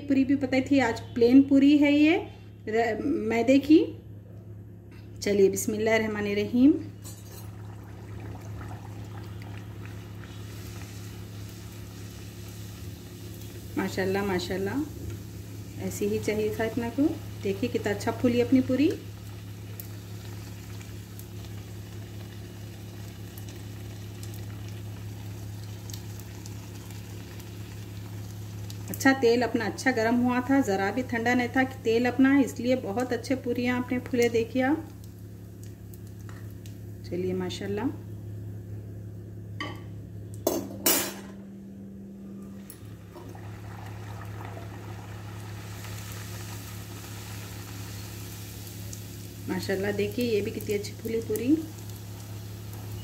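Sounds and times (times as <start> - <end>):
steady low hum: 0.0 - 53.0
deep-frying sizzle: 6.4 - 39.4, 42.5 - 53.0.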